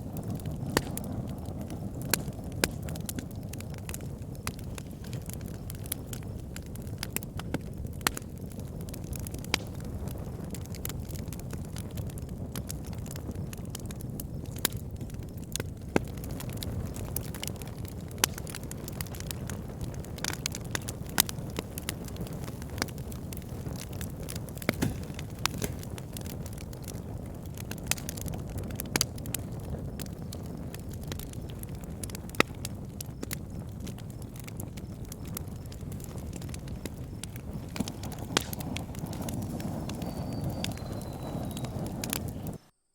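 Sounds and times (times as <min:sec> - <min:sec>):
campfire crackling and popping: 0:00.0 - 0:42.6
wind: 0:00.0 - 0:42.9.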